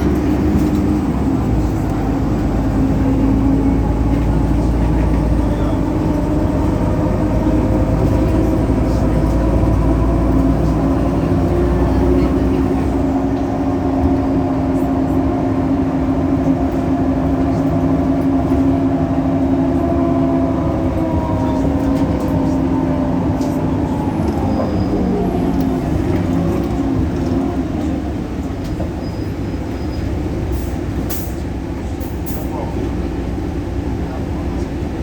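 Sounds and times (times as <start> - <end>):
bus diesel engine drone: 0.0 - 35.0
engine belt noise: 0.0 - 35.0.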